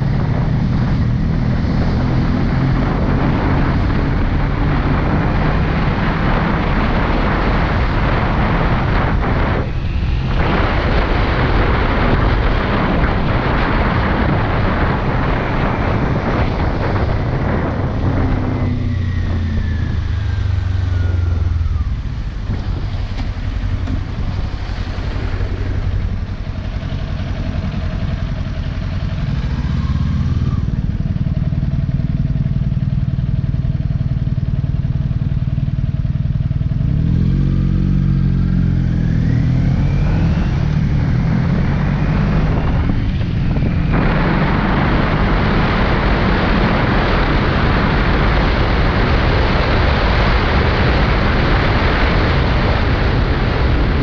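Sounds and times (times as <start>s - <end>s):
wind noise rushing: 0.0s - 31.1s, 38.1s - 54.0s
motorcycle engine revving: 0.0s - 54.0s.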